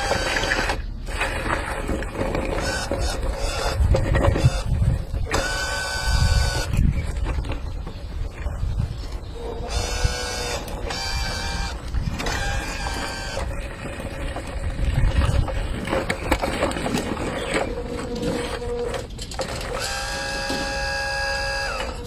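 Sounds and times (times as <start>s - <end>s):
toy gear motors whining: 0.0s - 1.6s, 2.2s - 7.6s, 8.3s - 22.0s.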